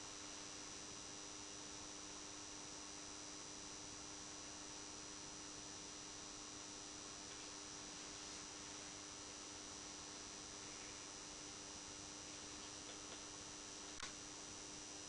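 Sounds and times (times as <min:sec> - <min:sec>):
constant hiss: 0:00.0 - 0:15.0
faint electrical mains hum: 0:00.0 - 0:15.0.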